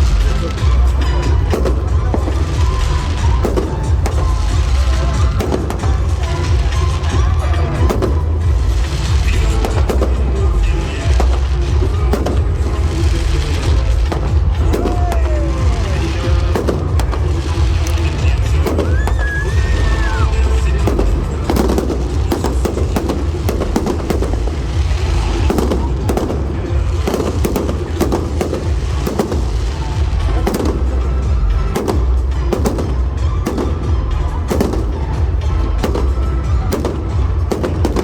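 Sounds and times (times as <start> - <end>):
fireworks bangs and crackles: 0.0 - 38.0
music playing: 0.0 - 38.0.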